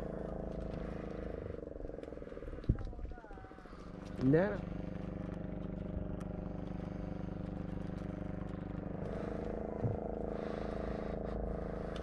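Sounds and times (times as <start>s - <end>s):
boat engine throbbing: 0.0s - 12.0s.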